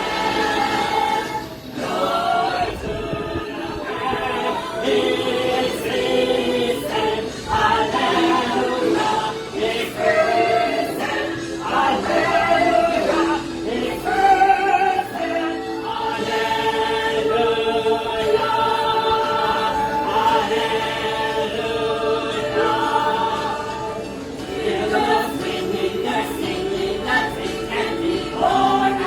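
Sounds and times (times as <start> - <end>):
church choir singing: 0.0 - 29.0.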